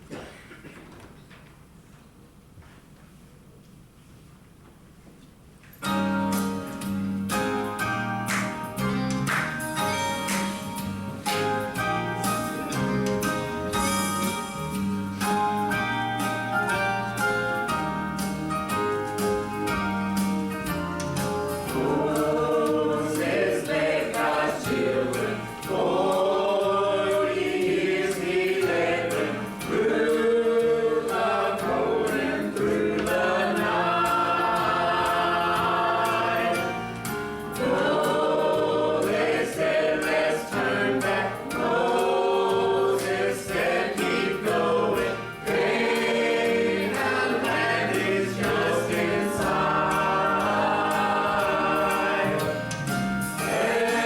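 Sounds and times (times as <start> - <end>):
instrumental accompaniment: 5.8 - 54.0
group singing a gospel hymn: 9.3 - 54.0.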